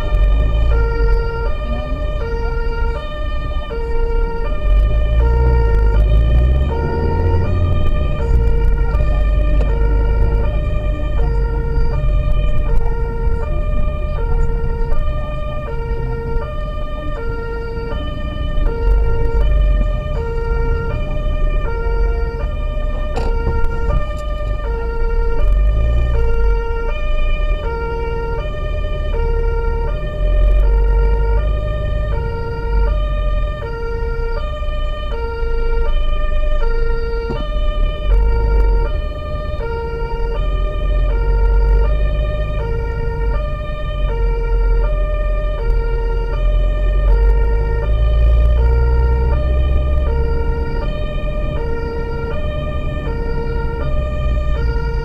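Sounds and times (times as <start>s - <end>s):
road noise: 0.0s - 55.0s
two-tone emergency siren: 0.0s - 55.0s
vehicle engine rumble: 0.0s - 55.0s.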